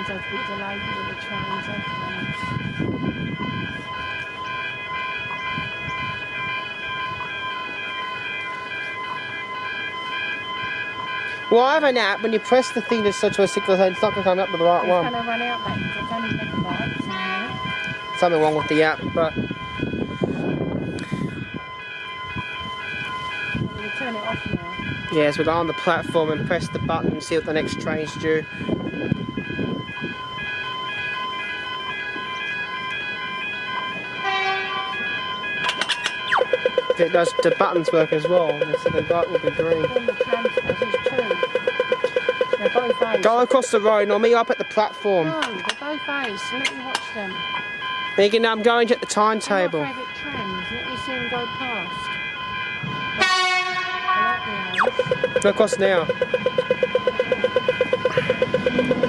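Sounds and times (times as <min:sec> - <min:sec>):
level crossing bell ringing: 0:00.0 - 0:59.0.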